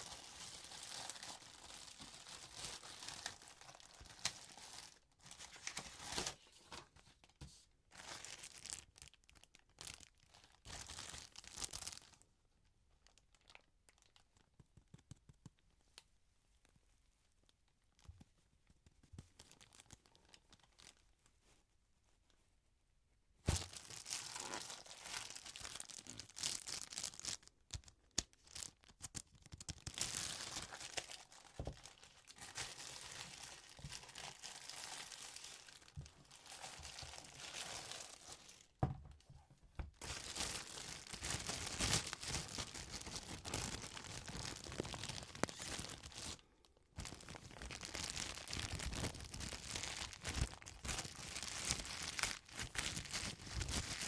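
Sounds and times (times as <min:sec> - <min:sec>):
paper and plastic crinkling: 0:00.0 - 0:12.2, 0:19.1 - 0:21.1, 0:23.5 - 0:38.8, 0:39.9 - 0:54.0.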